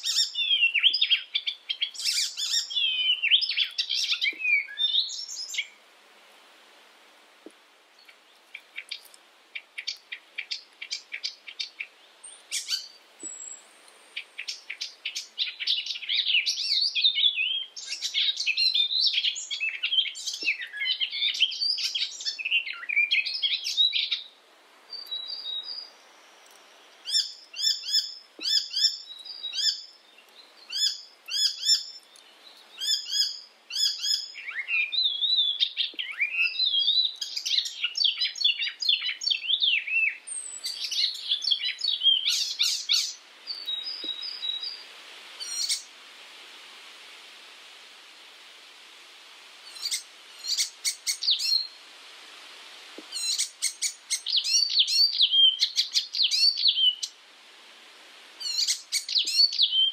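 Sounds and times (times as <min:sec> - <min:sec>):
warbler singing: 0:00.0 - 0:05.8, 0:08.0 - 0:24.3, 0:24.9 - 0:44.8, 0:45.4 - 0:45.9, 0:49.7 - 0:51.8, 0:53.1 - 0:57.2, 0:58.4 - 0:59.9.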